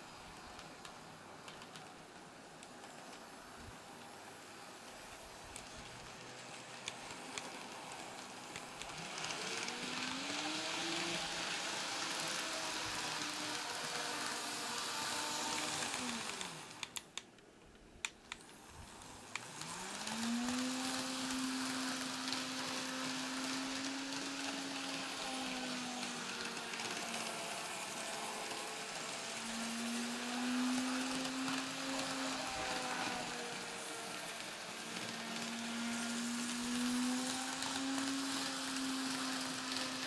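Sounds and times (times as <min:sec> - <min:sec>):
model train motor whining: 0:02.4 - 0:17.0, 0:18.4 - 0:40.0.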